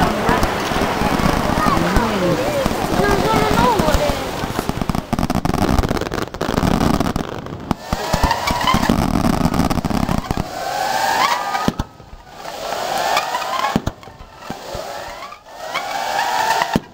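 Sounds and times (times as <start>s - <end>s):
firework shells bursting and crackling: 0.0s - 16.9s.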